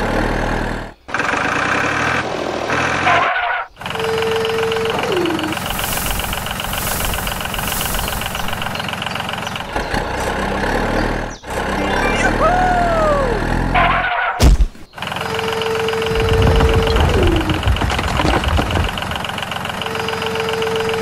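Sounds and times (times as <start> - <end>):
truck engine running: 0.0 - 14.3, 14.9 - 21.0.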